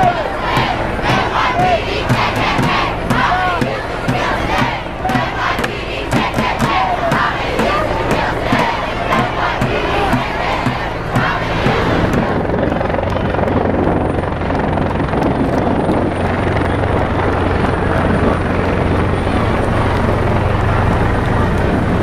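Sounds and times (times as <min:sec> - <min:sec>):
helicopter hovering: 0:00.0 - 0:22.0.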